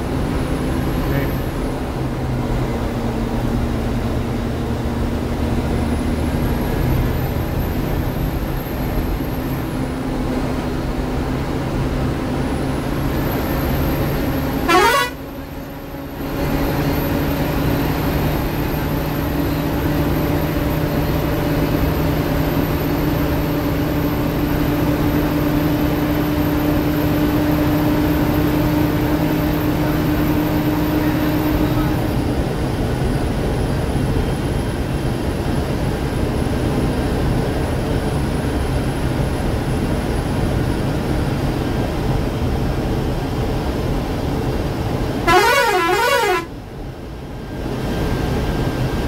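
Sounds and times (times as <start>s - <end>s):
bus engine and road noise: 0.0s - 49.0s.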